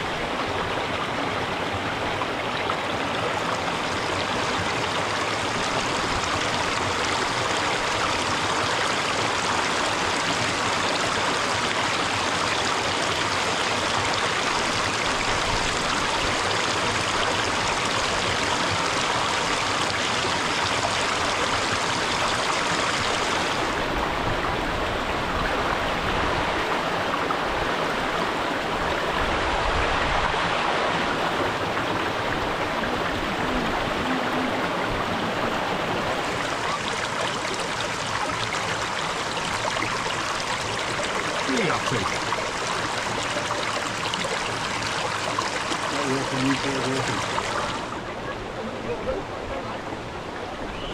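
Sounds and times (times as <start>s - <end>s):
rushing stream and waterfall: 0.0s - 50.9s.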